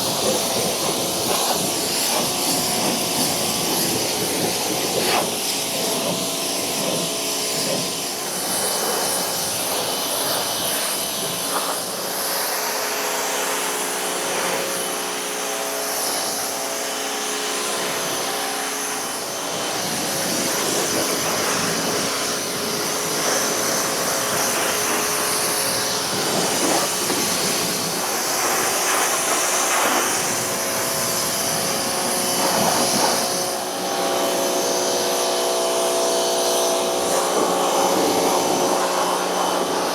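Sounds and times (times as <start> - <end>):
water jet hissing: 0.0 - 15.0, 17.0 - 39.9
pressure washer motor hum: 0.0 - 39.9.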